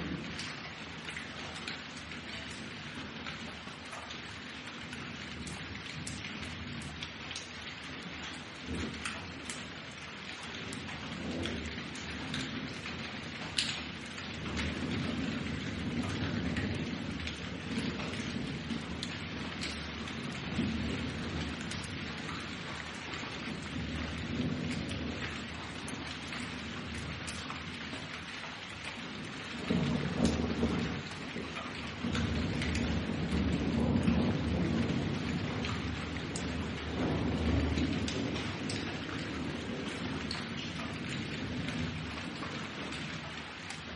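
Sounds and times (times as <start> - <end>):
low rolling thunder: 0.0 - 3.8, 4.7 - 43.9
heavy rain falling: 0.0 - 43.9.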